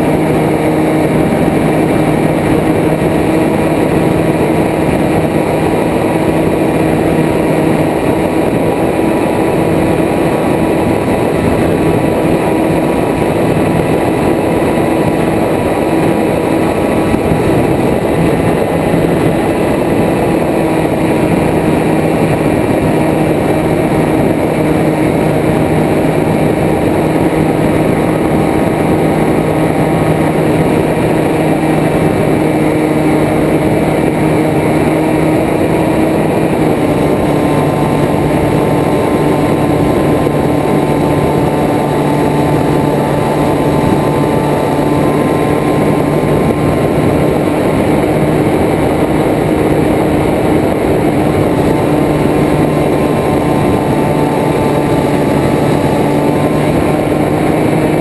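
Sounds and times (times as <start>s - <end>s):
propeller aircraft engine droning: 0.0s - 58.0s
wind noise: 0.0s - 58.0s.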